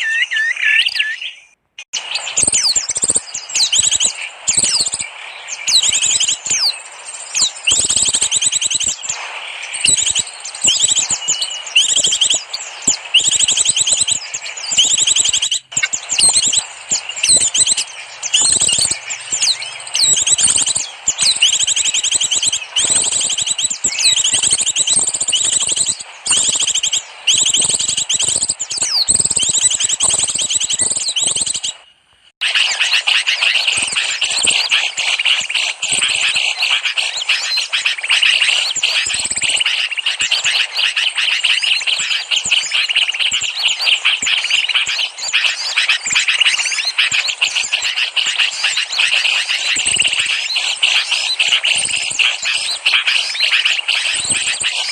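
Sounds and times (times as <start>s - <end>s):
small birds chirping rapidly: 0.0s - 54.9s.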